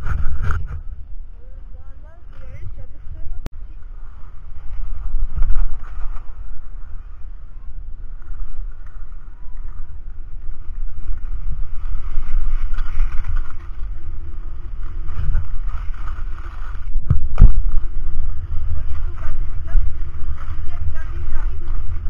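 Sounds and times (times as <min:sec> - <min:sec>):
sliding scrape over snow: 0:00.0 - 0:22.0
wind buffeting microphone: 0:00.0 - 0:22.0.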